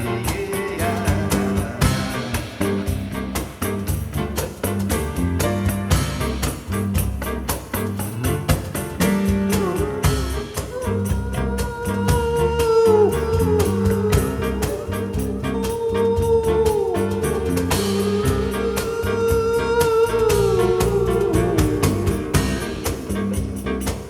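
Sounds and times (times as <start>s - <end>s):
acoustic jazz group playing: 0.0s - 24.0s
bass notes: 0.0s - 24.0s
percussion strikes: 0.0s - 24.0s
sliding melody line: 0.0s - 24.0s.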